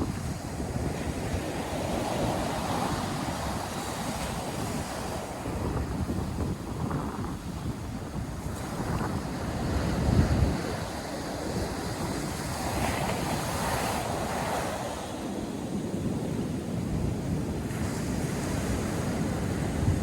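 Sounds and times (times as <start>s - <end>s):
surf breaking and washing in: 0.0s - 20.0s
wind buffeting microphone: 0.0s - 20.0s.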